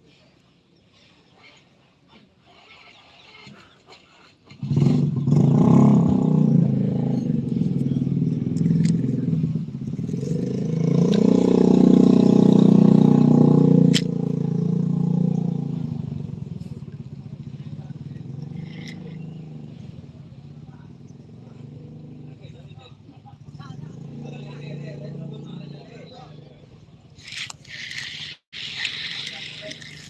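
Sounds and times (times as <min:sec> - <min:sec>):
small engine droning: 0:00.0 - 0:30.0.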